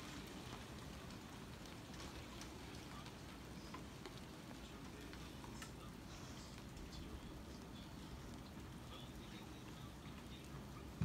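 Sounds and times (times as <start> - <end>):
raindrops ticking: 0.0 - 11.0
steady rain hiss: 0.0 - 11.0.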